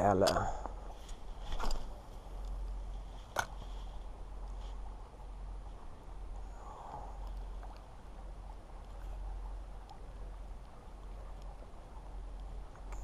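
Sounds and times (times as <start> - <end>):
river washing: 0.0 - 13.0
wind rumbling on microphone: 0.0 - 13.0.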